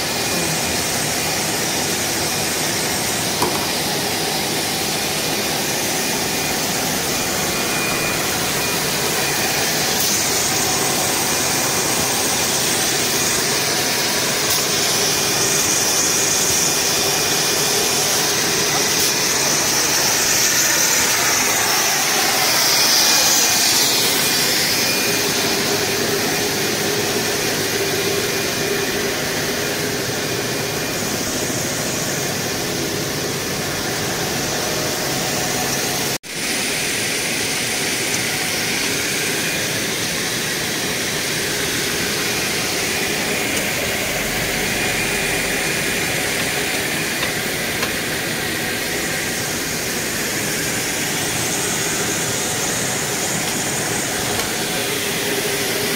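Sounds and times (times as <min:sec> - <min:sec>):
extrusion machinery hiss and hum: 0:00.0 - 0:55.9.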